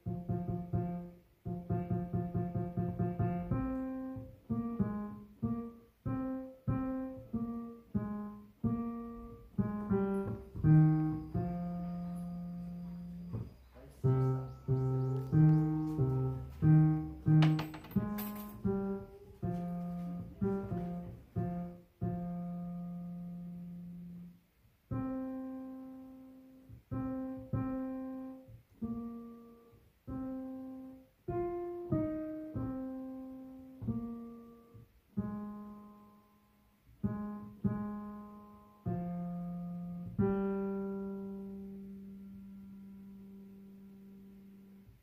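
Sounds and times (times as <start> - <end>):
slow piano melody: 0.0 - 45.0.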